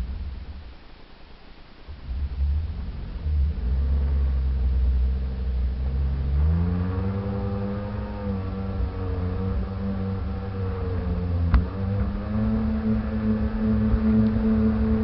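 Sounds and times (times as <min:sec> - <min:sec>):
jet ski engine running: 0:02.0 - 0:15.0.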